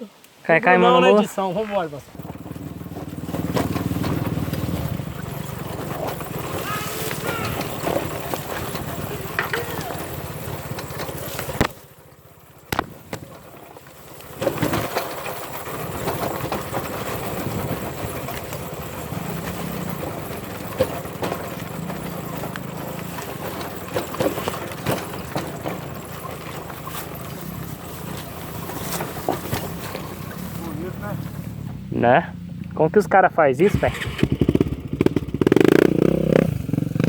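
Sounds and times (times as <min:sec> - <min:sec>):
dirt bike engine running: 0:01.4 - 0:37.0
knocks and rattles: 0:02.1 - 0:11.8, 0:12.4 - 0:33.0.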